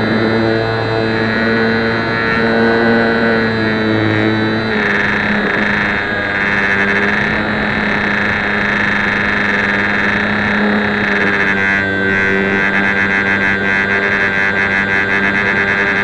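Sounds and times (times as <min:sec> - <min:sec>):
small electric motor and propeller hum: 0:00.0 - 0:16.0.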